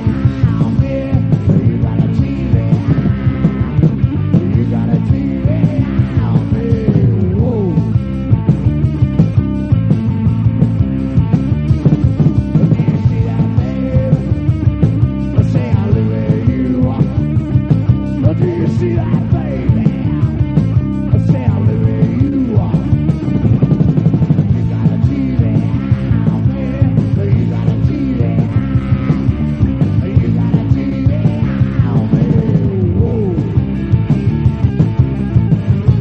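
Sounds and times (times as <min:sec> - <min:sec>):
driving drum beat: 0:00.0 - 0:36.0
loud instrumental rock music: 0:00.0 - 0:36.0.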